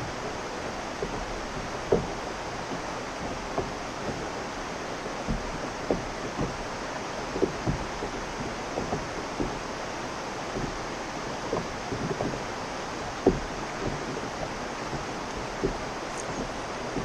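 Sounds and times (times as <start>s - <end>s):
river water rushing: 0.0s - 17.0s
soft knocks against kayak: 0.0s - 17.0s.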